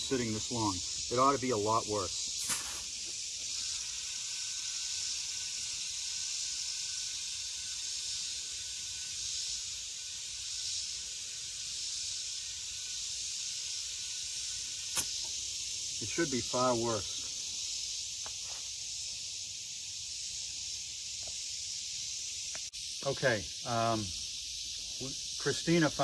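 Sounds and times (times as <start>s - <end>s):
compressed air hissing: 0.0s - 26.0s.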